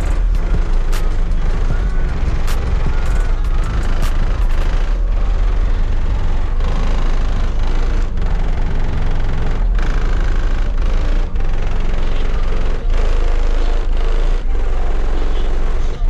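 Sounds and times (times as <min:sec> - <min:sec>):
background music: 0:00.0 - 0:16.0
car engine rumbling: 0:00.0 - 0:16.0.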